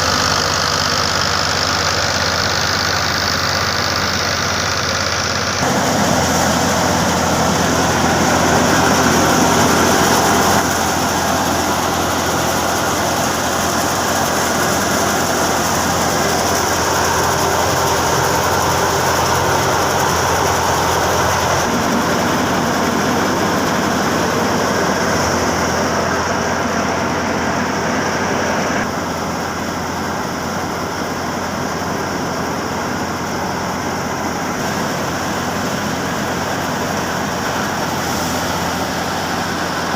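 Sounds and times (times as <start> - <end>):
thresher churning: 0.0 - 39.9
tractor engine under load: 0.0 - 39.9.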